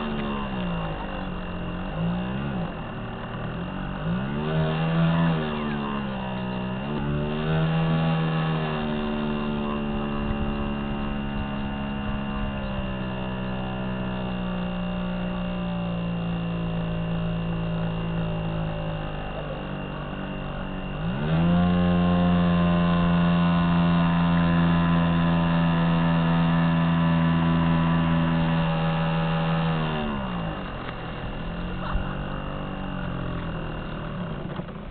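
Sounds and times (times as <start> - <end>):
model ship motor humming: 0.0 - 34.9.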